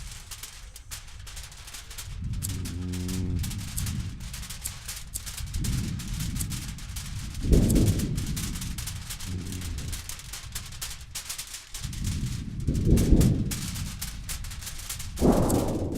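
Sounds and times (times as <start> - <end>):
campfire crackling: 0.0 - 15.9
thunder rumbling: 0.0 - 15.9.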